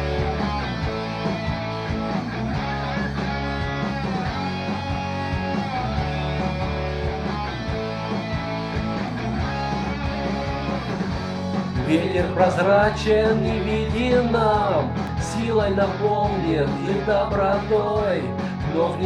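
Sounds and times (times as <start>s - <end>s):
steady beat: 0.0s - 18.7s
bass: 0.0s - 19.0s
guitar: 0.0s - 19.0s.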